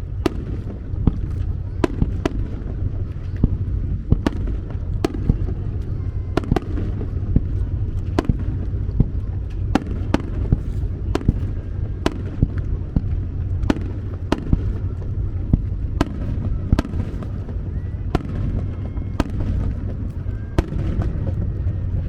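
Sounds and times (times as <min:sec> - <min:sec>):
fireworks cracking: 0:00.0 - 0:22.0
low rumble: 0:00.0 - 0:22.0.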